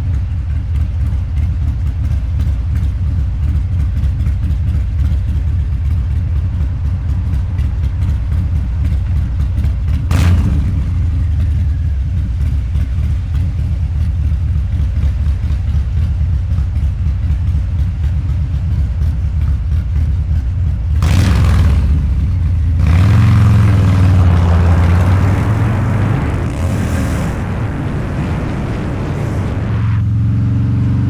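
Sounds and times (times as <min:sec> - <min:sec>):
motorcycle v-twin exhaust pulse: 0:00.0 - 0:30.2.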